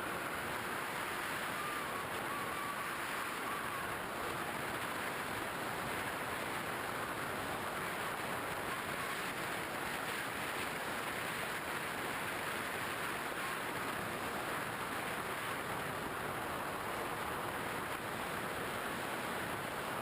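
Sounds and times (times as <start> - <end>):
wind rushing over camera: 0.0 - 20.0.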